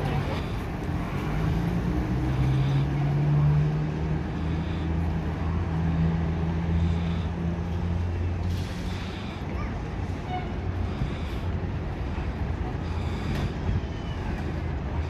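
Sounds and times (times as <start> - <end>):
bus engine driving past: 0.0 - 15.0.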